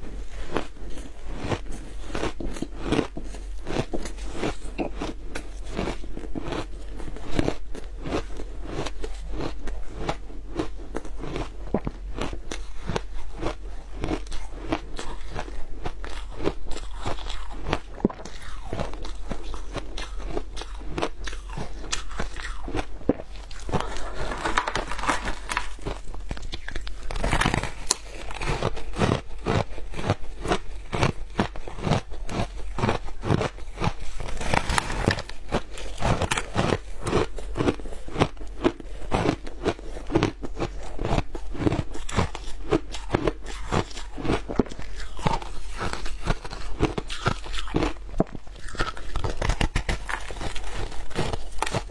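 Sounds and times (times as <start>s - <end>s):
chewing crunchy ice: 0.0s - 51.9s.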